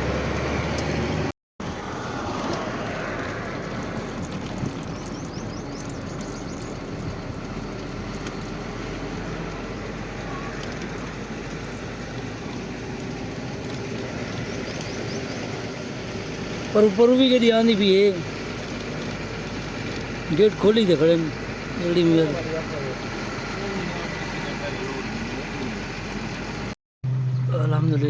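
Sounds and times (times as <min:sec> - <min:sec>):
truck engine and road rumble: 0:00.0 - 0:28.0.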